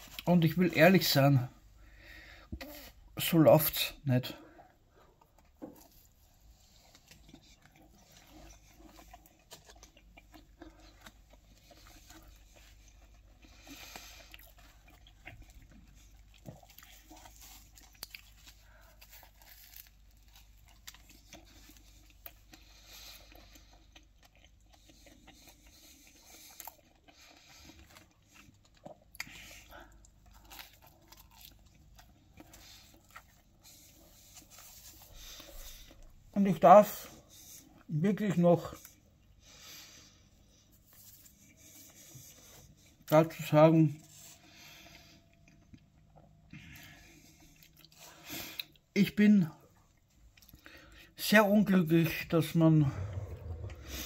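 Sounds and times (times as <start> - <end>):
person chewing pizza: 0.0 - 51.2, 52.4 - 54.0.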